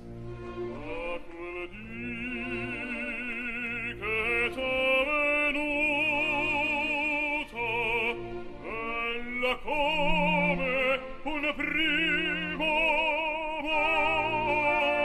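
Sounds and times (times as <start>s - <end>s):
low musical accompaniment: 0.0s - 15.0s
operatic singing: 0.0s - 15.0s.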